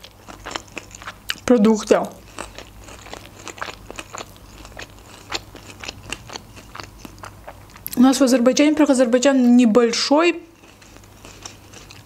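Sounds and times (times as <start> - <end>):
chewing food: 0.0 - 8.5, 10.4 - 12.0.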